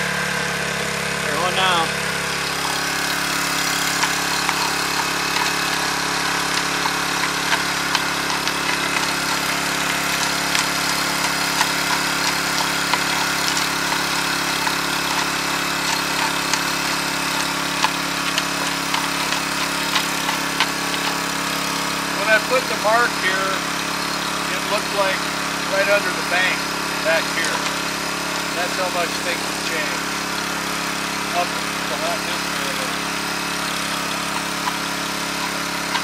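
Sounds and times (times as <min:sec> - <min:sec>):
small gasoline engine running: 0:00.0 - 0:36.0
water churning: 0:02.0 - 0:36.0.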